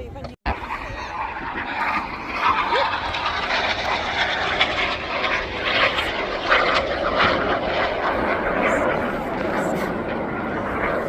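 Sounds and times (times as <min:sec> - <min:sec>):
wind on microphone: 0:00.0 - 0:11.0
jet aircraft flying overhead: 0:00.5 - 0:11.0.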